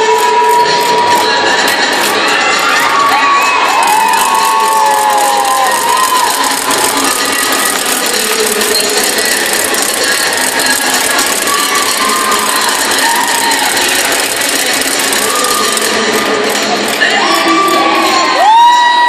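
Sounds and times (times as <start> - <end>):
ratchet noisemakers rattling: 0.0 - 18.5
crowd cheering and shouting: 0.0 - 19.0.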